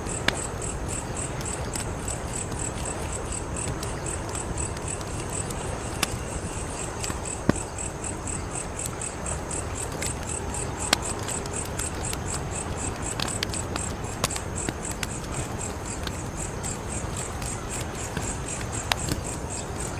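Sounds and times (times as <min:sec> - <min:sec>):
crickets chirping: 0:00.0 - 0:19.9
wood fire crackling: 0:00.0 - 0:19.9.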